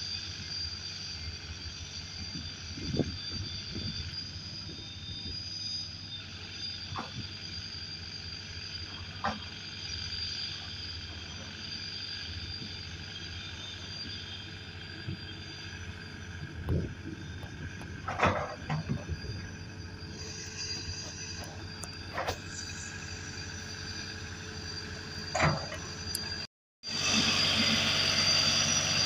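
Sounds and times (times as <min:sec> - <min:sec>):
road roller diesel engine running: 0:00.0 - 0:29.0.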